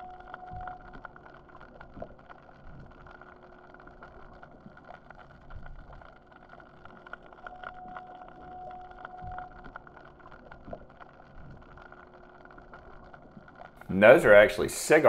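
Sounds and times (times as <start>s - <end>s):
muffled underwater wash: 0.0s - 15.0s
steady hum: 0.0s - 15.0s.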